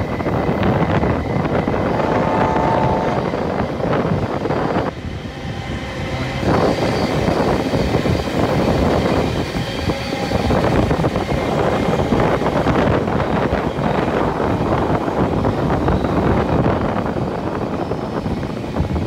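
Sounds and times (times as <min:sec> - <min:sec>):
train rumbling: 0:00.0 - 0:19.0
wind buffeting microphone: 0:00.0 - 0:19.0.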